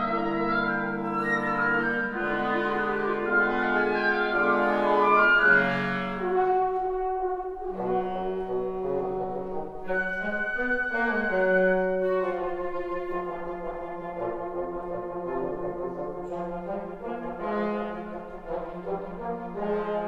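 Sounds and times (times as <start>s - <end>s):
wind ensemble playing sustained chords: 0.0s - 20.0s.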